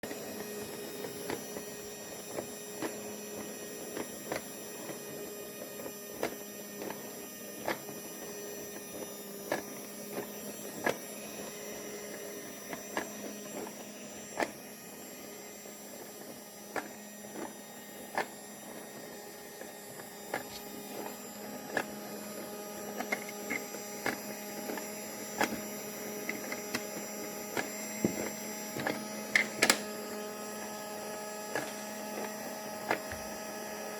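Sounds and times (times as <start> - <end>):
toy washing machine motor hum: 0.0 - 33.9.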